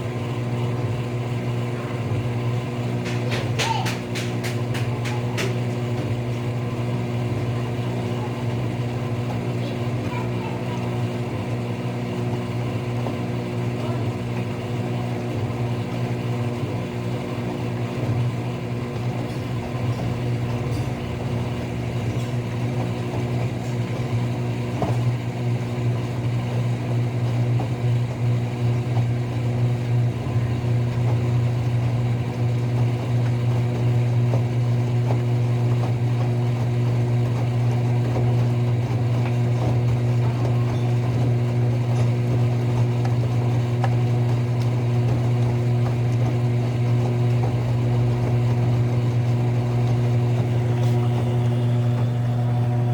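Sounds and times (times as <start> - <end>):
washing machine motor humming: 0.0 - 52.9.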